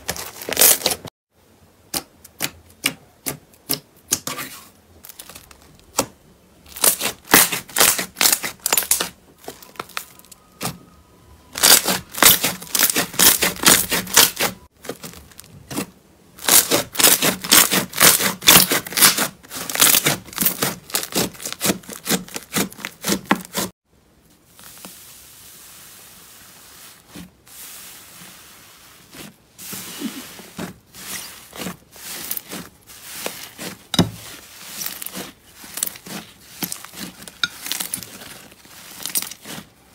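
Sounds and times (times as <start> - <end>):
slime squishing: 1.9 - 10.9, 11.5 - 23.7, 26.7 - 39.9.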